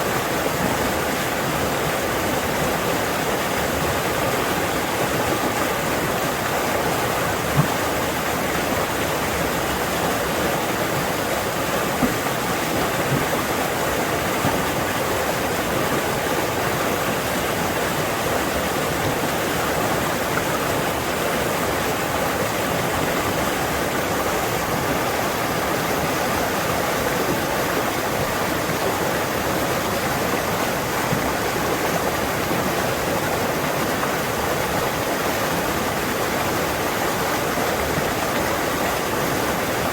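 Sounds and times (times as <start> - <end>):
stream rushing over its bed: 0.0 - 39.9.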